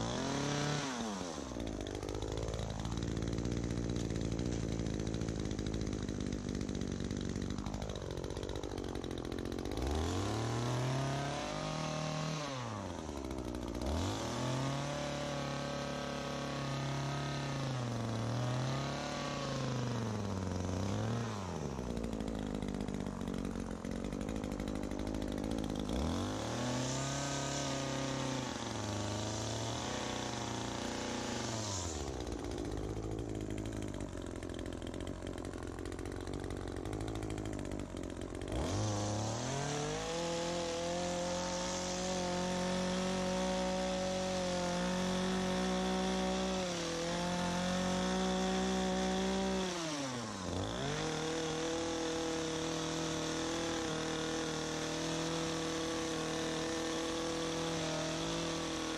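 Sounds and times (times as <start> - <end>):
hedge trimmer engine revving: 0.0 - 58.9.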